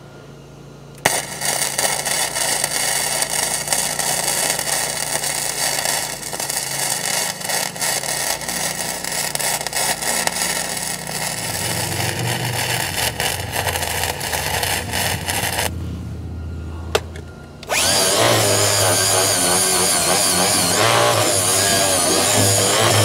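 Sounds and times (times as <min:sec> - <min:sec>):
welding arc crackling: 0:01.0 - 0:15.8, 0:17.6 - 0:23.0.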